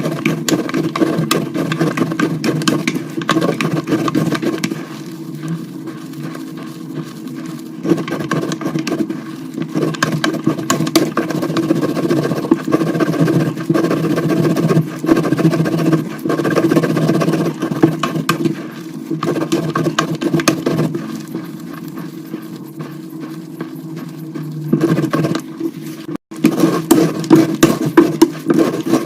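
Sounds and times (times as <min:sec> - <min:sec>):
chalk crunching and cracking: 0:00.0 - 0:29.0
steady low hum: 0:00.0 - 0:29.0.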